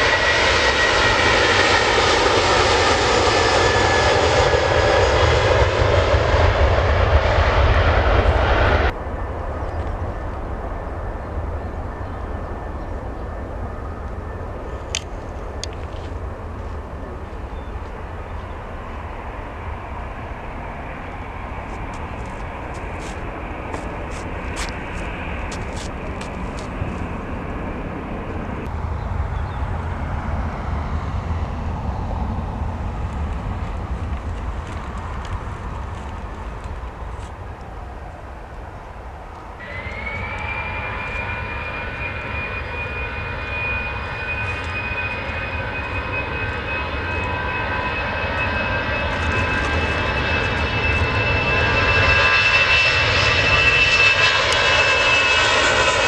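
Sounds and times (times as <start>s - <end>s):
distant aircraft engine rumble: 0.0s - 56.0s
jet engines running loud: 0.0s - 56.0s.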